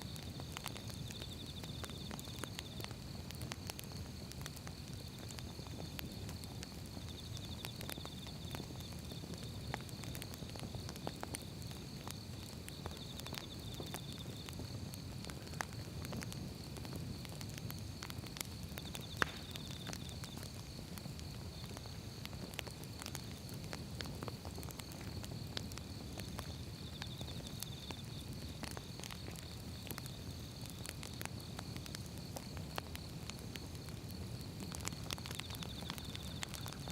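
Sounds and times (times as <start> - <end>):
fire crackling and popping: 0.0 - 36.9.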